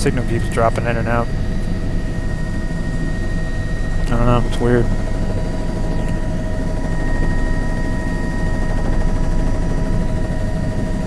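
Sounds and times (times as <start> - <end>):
helicopter engine and rotor drone: 0.0 - 11.0
high whine tones: 0.0 - 11.0.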